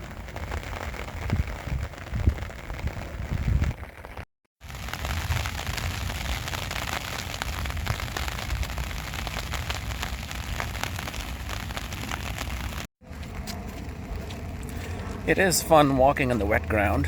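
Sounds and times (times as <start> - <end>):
rain pattering: 0.0 - 16.1
wind rumble on microphone: 0.0 - 16.9.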